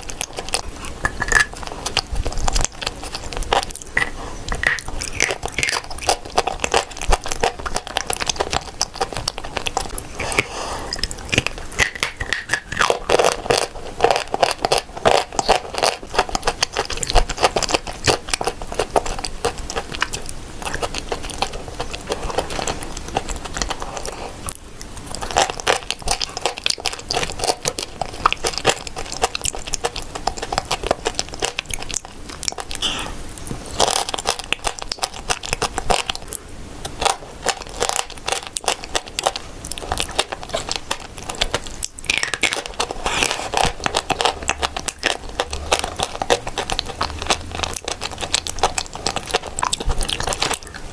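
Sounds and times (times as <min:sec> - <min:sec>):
crunching and chewing: 0:00.0 - 0:50.9.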